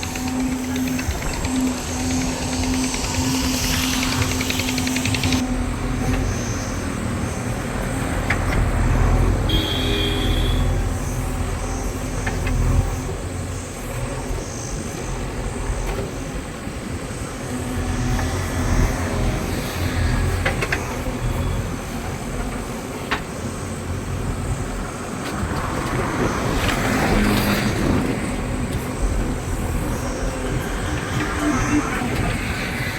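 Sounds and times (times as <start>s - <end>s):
heavy diesel engine rumbling: 0.0s - 32.9s.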